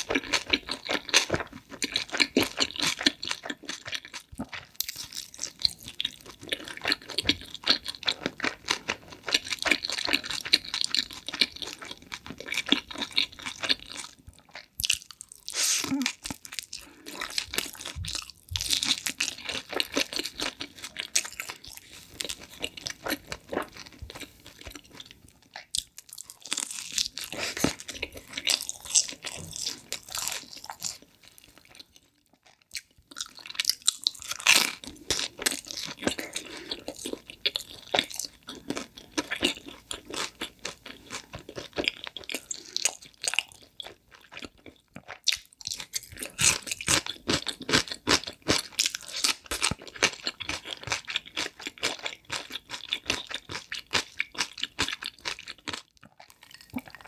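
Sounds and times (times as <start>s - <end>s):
crunching and chewing pizza crust: 0.0s - 57.0s.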